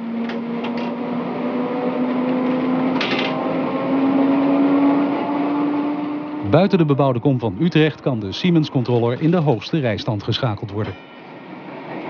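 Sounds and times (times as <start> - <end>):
tram traction motors whining: 0.0 - 12.0.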